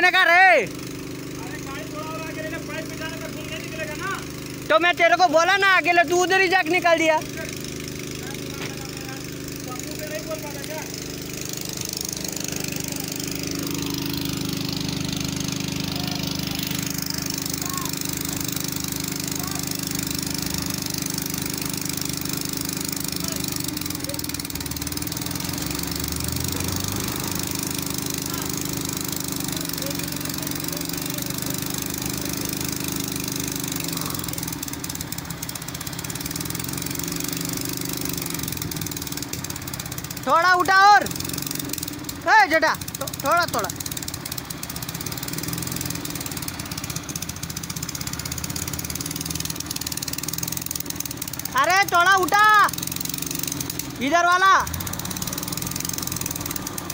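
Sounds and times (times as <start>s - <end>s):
diesel crane engine running: 0.0s - 56.9s.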